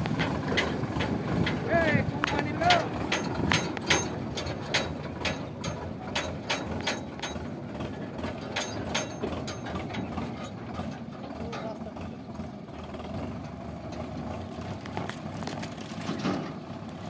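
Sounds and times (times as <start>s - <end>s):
tractor engine rumble: 0.0s - 17.0s
trailer rattling and clanking: 0.0s - 17.0s.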